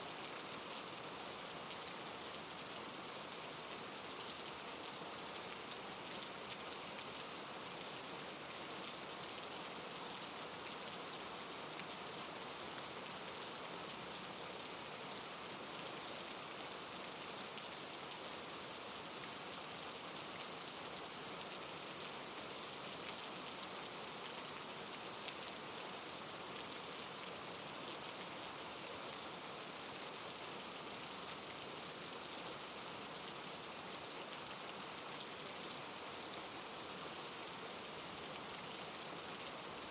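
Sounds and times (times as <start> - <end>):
soft rain pattering: 0.0 - 39.9.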